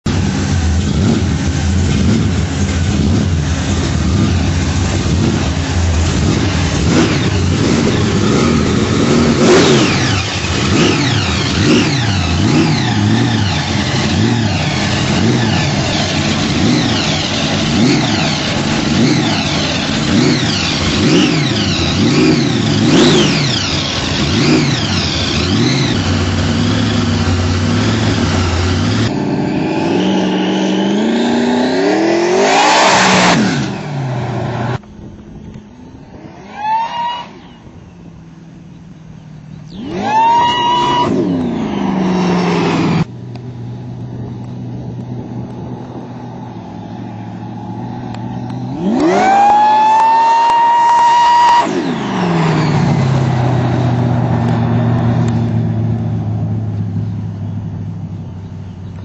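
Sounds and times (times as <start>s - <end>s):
car engine revving: 0.0s - 35.0s, 39.4s - 59.0s
supercharger whine: 0.0s - 59.0s.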